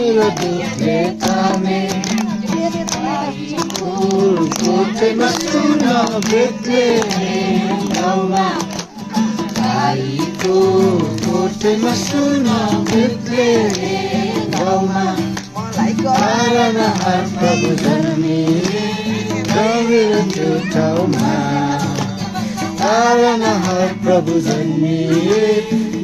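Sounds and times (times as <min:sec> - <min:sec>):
group singing a carol: 0:00.0 - 0:26.0
instrumental accompaniment: 0:00.0 - 0:26.0.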